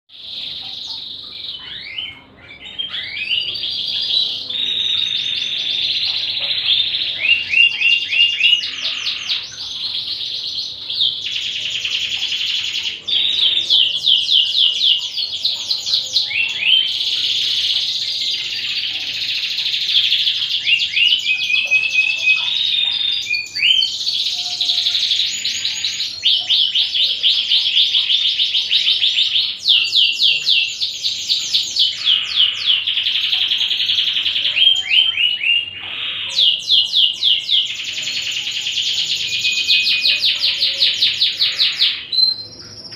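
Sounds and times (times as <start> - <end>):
canary singing trills: 0.1 - 42.9.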